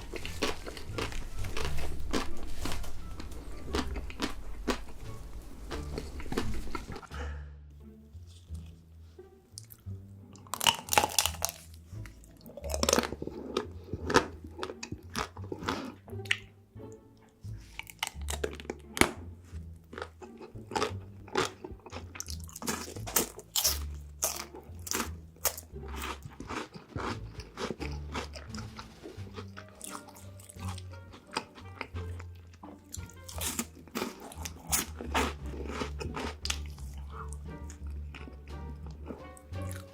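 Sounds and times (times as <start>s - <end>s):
chewing and crunching chocolate: 0.0s - 7.1s, 9.6s - 39.9s
background music with bass line: 0.0s - 39.9s.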